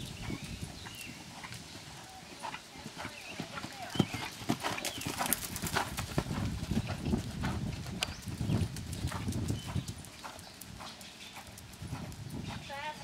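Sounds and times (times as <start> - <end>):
horse hooves thudding on sand: 0.0 - 13.0.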